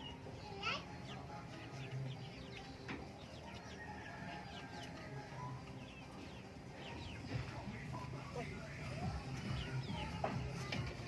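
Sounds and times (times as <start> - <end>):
chickens clucking and cheeping: 0.0 - 11.0.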